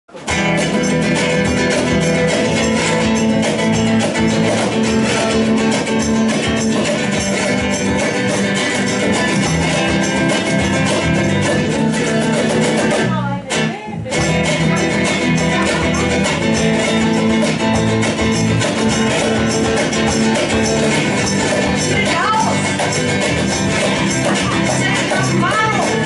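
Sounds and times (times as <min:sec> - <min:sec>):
drums keeping a steady beat: 0:00.1 - 0:26.0
electric guitar: 0:00.1 - 0:26.0
strummed acoustic guitar: 0:00.1 - 0:26.0.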